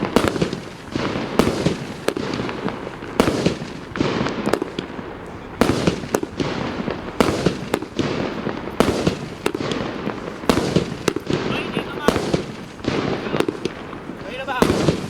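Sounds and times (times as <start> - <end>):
firework crackling: 0.0 - 15.0
firework shots: 0.0 - 15.0
small firework pops: 0.0 - 15.0.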